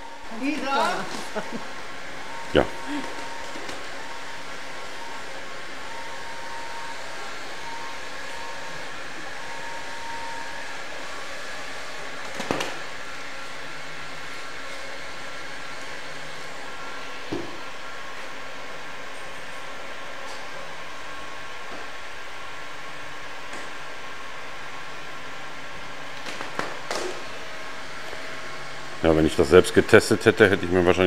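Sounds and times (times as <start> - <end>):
faint high hum: 0.0 - 31.0.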